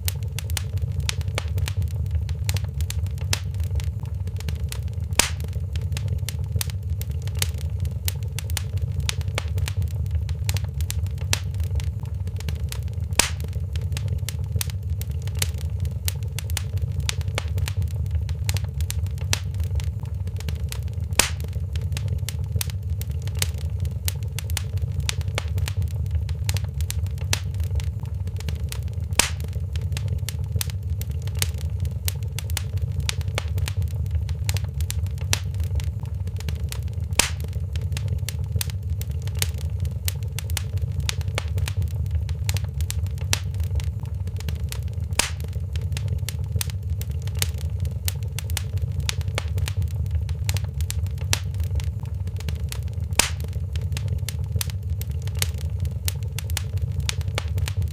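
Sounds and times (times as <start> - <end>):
loud fire pops: 0.0 - 57.9
wood fire crackling: 0.0 - 57.9.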